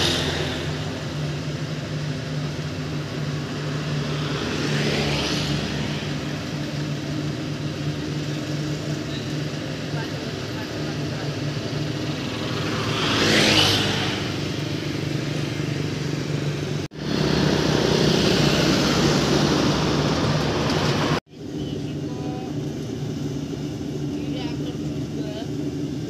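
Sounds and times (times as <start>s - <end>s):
harvesting machine engine running: 0.0s - 26.0s.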